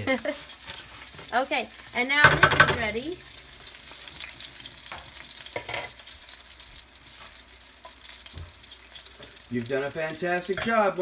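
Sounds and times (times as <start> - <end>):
fish sizzling in butter: 0.0 - 11.0.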